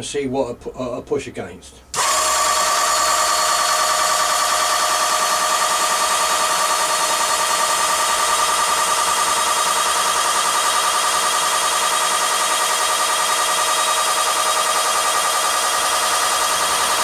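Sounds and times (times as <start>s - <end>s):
electric pump whining and pulsing: 1.9s - 17.0s.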